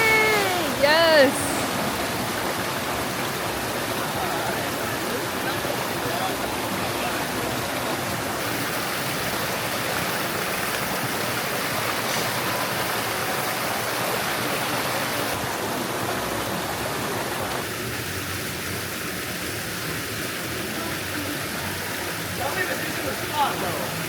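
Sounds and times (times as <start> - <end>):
water spilling into pond: 0.0 - 24.0.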